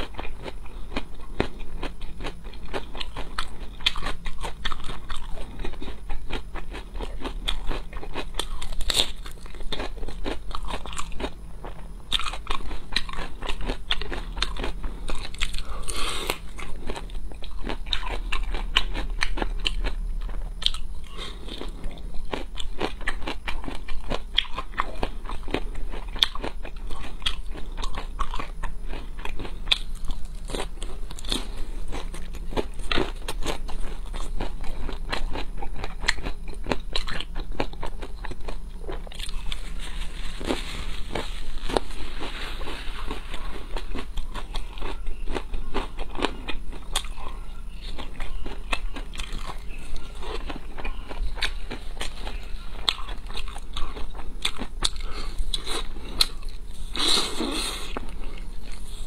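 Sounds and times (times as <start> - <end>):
crisp crunching and chewing: 0.0 - 59.0.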